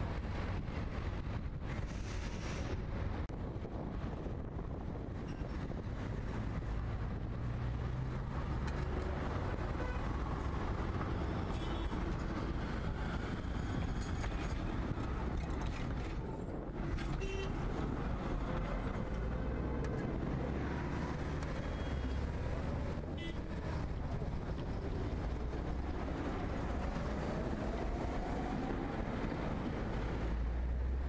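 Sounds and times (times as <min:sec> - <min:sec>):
rumble of trams and traffic: 0:00.0 - 0:31.0.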